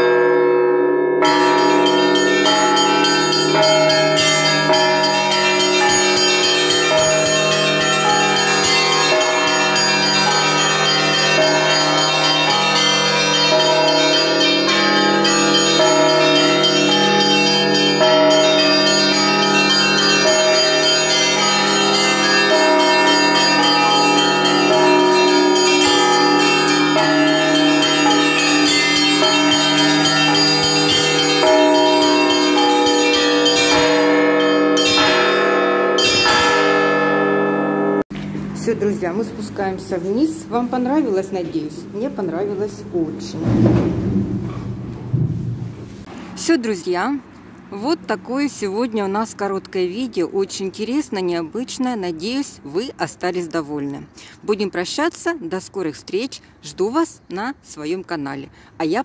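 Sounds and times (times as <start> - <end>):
church bells ringing: 0.0 - 43.4, 46.4 - 56.8.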